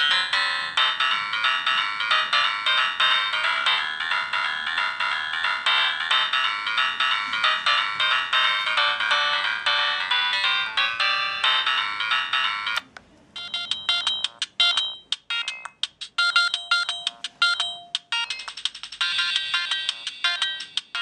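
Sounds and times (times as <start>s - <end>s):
phone ringtone electronic melody: 0.0s - 12.8s, 13.4s - 21.0s.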